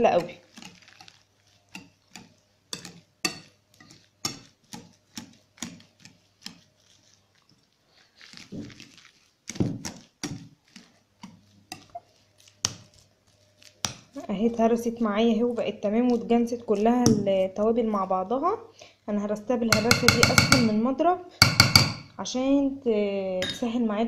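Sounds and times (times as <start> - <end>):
masher knocking and squishing potatoes: 0.0 - 7.0, 8.3 - 18.4, 19.6 - 22.2.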